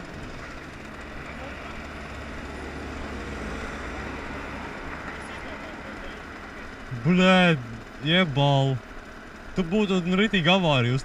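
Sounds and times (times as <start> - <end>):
motorcycle engine idling: 0.0 - 11.0
road traffic passing: 0.0 - 11.0.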